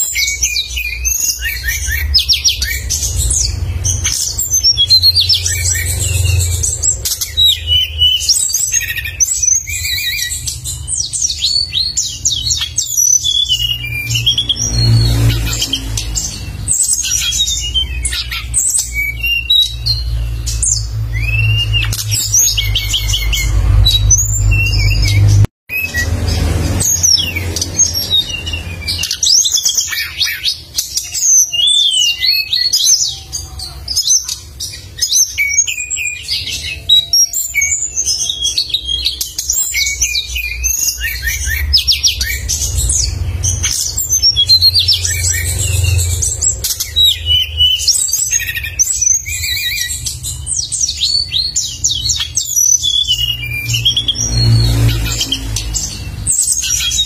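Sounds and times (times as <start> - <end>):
songbird singing trills: 0.0 - 57.0.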